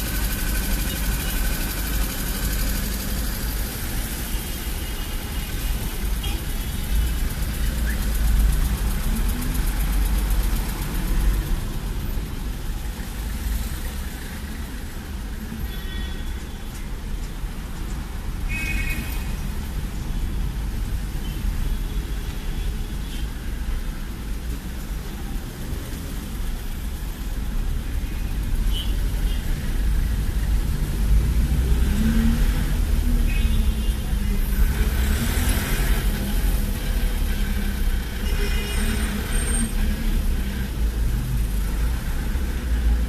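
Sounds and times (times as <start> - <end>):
car engine and road rumble: 0.0 - 18.7, 19.4 - 43.0.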